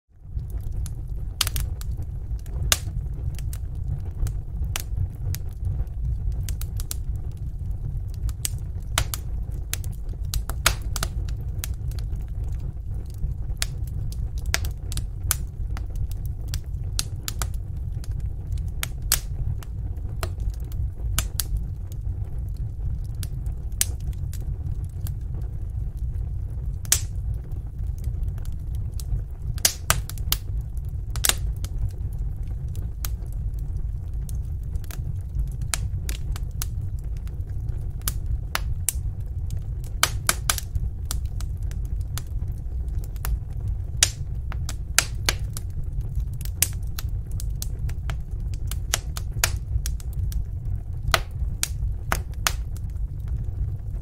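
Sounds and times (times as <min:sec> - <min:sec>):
fire crackling in a fireplace: 0:00.1 - 0:54.0.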